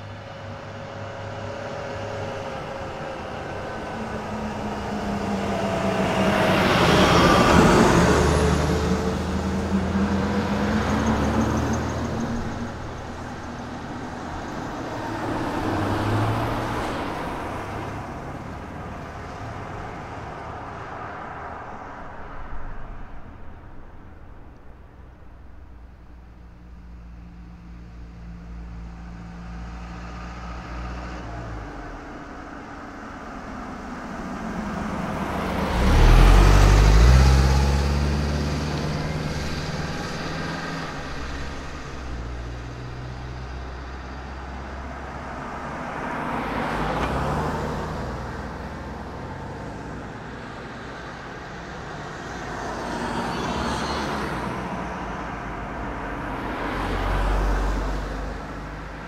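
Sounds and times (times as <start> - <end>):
cars driving past: 0.0 - 59.0.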